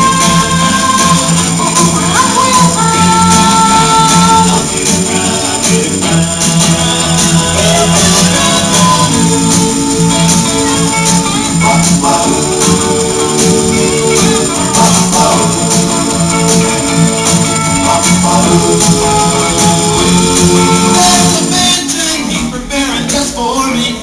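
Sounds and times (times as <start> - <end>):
tambourine beat: 0.0 - 23.3
upbeat instrumental song: 0.0 - 24.0.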